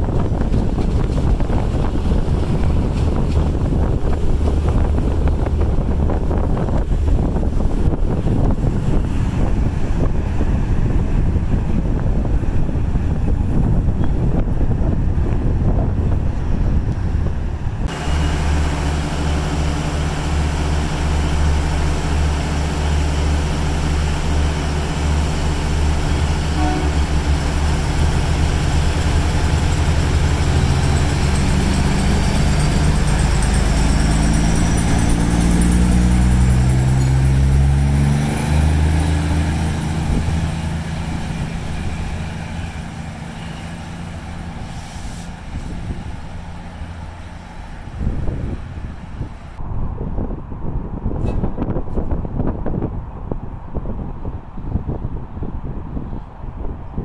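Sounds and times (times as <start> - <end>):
diesel train engines revving: 0.0 - 50.5.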